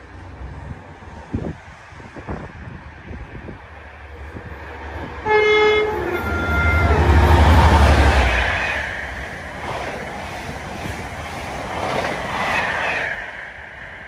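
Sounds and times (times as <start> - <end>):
diesel locomotive engine rumble: 0.0 - 14.0
train coaches rolling by: 0.0 - 14.0.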